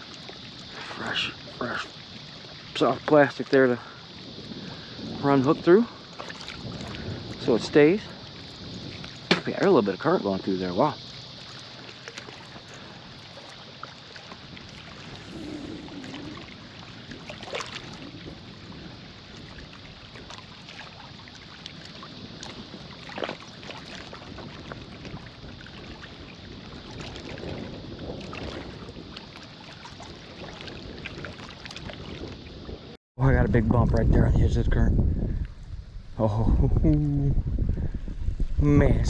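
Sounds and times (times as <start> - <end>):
wind: 0.0 - 39.0.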